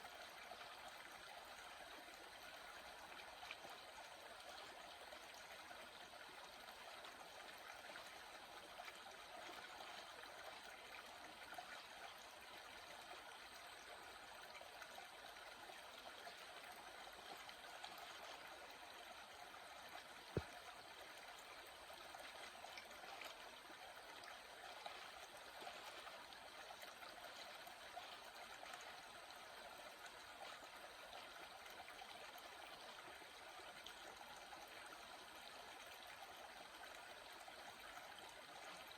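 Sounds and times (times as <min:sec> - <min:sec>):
small water stream running: 0:00.0 - 0:38.9.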